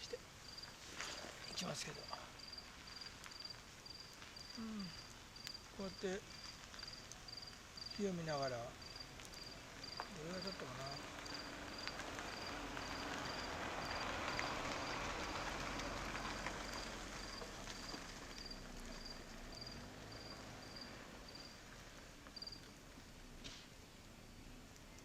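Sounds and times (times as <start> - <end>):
insect chirping: 0.0 - 22.8
campfire crackling: 0.0 - 25.0.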